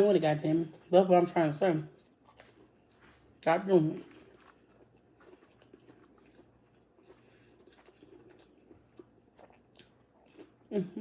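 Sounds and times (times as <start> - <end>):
faint chewing: 1.9 - 11.0.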